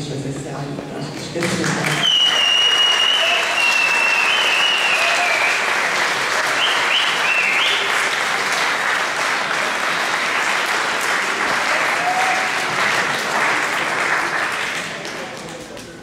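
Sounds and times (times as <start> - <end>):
audience applauding: 1.4 - 16.0.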